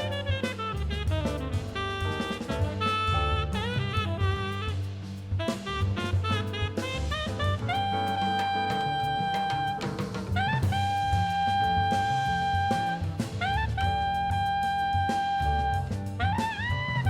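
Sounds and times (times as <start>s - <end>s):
drum kit: 0.0s - 17.0s
saxophone long notes: 0.0s - 17.0s
walking bass line: 0.0s - 17.0s.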